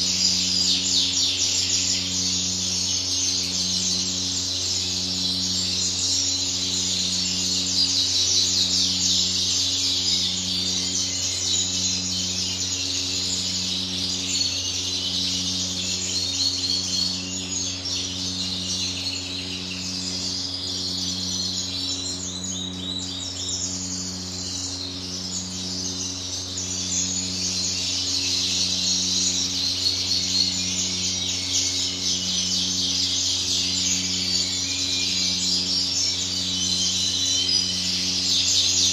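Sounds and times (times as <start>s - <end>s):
finches chirping and twittering: 0.0s - 38.9s.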